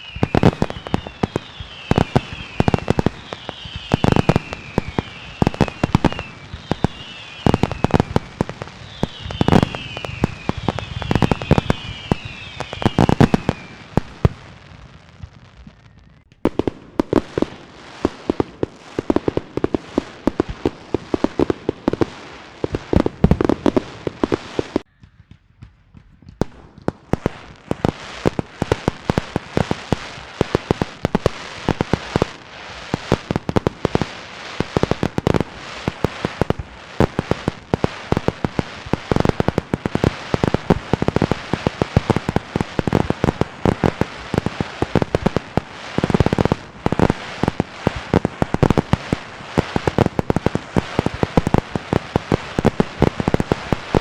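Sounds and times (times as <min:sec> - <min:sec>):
fireworks and firecrackers banging: 0:00.0 - 0:54.0.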